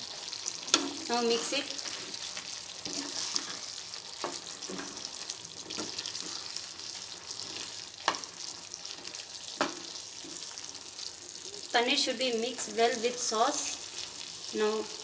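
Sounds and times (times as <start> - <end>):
sauce sizzling in a pan: 0.0 - 15.0.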